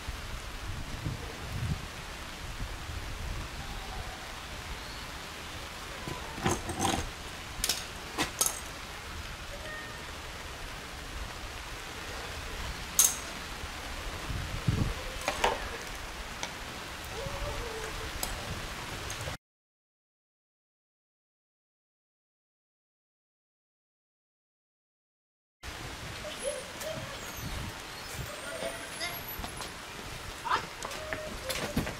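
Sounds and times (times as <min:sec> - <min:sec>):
rain hiss: 0:00.0 - 0:19.4, 0:25.6 - 0:31.9.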